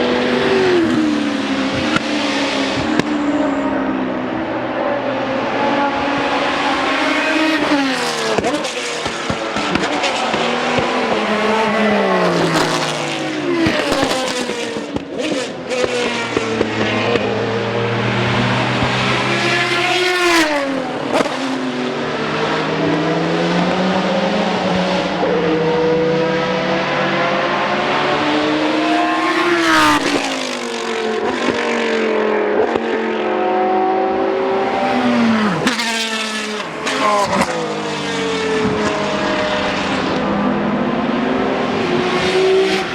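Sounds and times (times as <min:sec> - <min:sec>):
engines revving through gear changes: 0:00.0 - 0:42.9
race cars passing at speed: 0:00.0 - 0:42.9.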